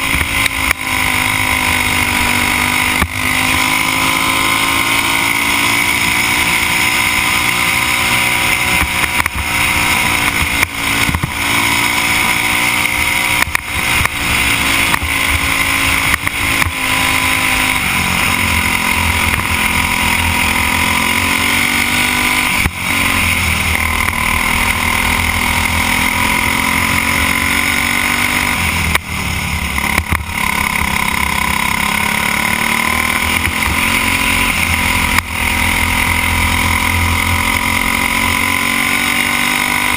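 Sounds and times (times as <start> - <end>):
kart engine racing: 0.0 - 39.9
other kart engines: 0.0 - 39.9.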